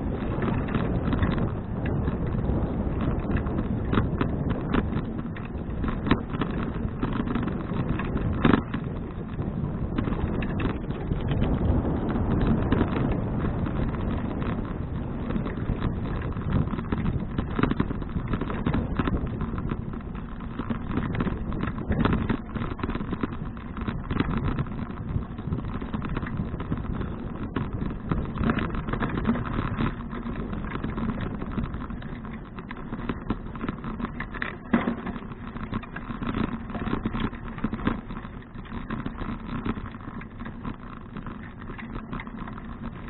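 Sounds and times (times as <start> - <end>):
bicycle rattling: 0.0 - 43.0
bicycle tyres on path: 0.0 - 43.0
wind on microphone: 0.0 - 43.0.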